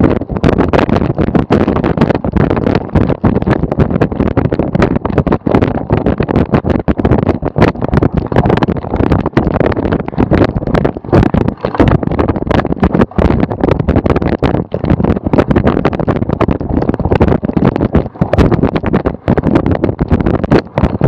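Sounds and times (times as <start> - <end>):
wind buffeting camera: 0.0 - 21.0.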